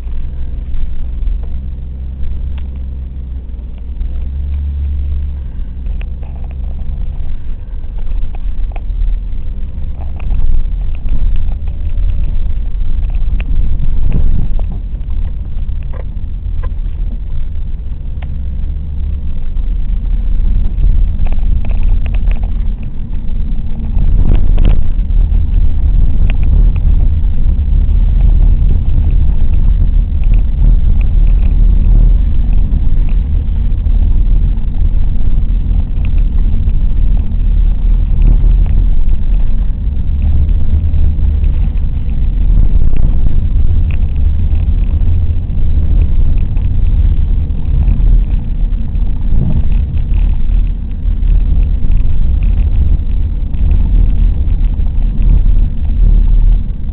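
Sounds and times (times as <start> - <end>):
car engine and tyres rumbling: 0.0 - 56.9
faint ticks: 0.0 - 56.9.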